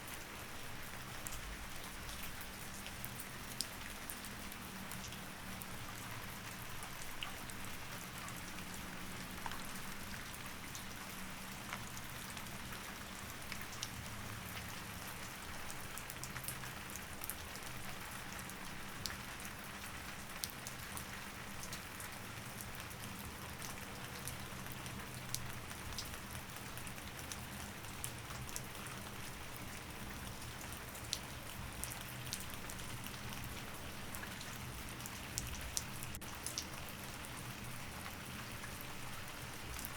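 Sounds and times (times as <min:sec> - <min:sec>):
rain drops on hard surface: 0:00.0 - 0:39.9.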